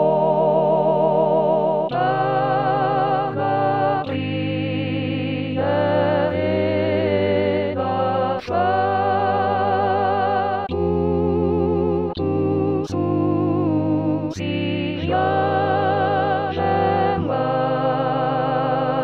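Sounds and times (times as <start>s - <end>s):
synthesized choir singing hymn: 0.0s - 19.0s.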